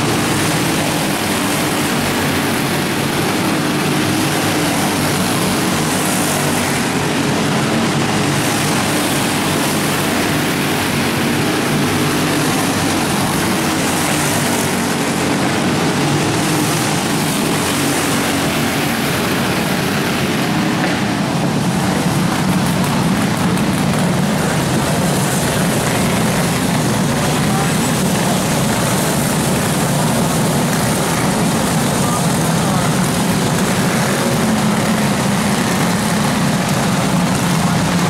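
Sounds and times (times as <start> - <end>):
kart engines droning: 0.0 - 38.0.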